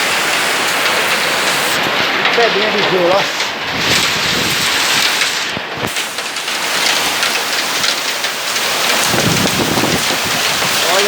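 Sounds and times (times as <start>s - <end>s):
heavy rain hissing: 0.0s - 11.0s
small hailstones pattering: 0.0s - 11.0s.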